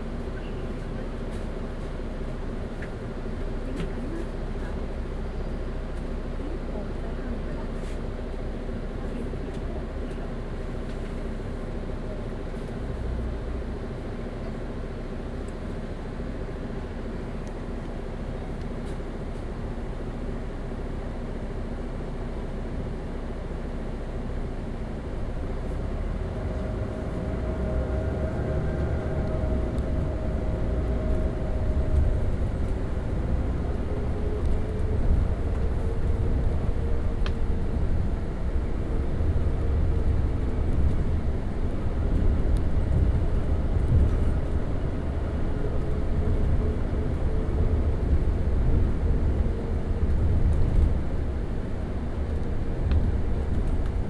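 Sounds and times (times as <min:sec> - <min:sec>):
bus engine rumbling: 0:00.0 - 0:54.0.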